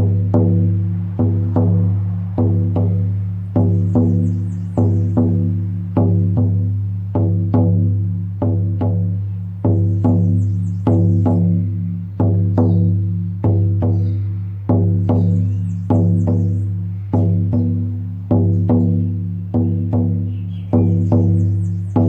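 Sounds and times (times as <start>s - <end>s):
frame drum beaten: 0.0s - 22.0s.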